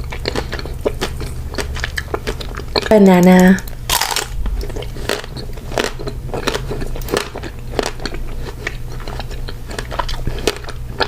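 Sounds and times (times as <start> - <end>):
biting and chewing crunchy treat: 0.0 - 11.0.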